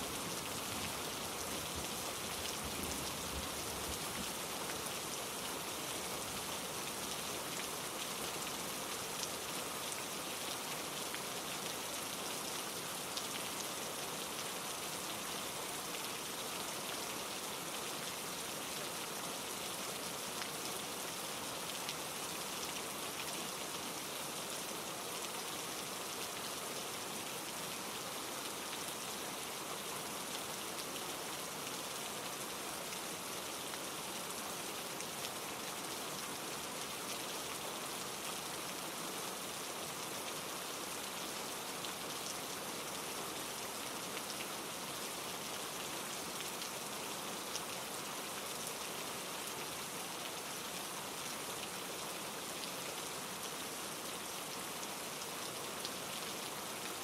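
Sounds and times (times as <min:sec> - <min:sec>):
rain falling on leaves and rocks: 0:00.0 - 0:57.0.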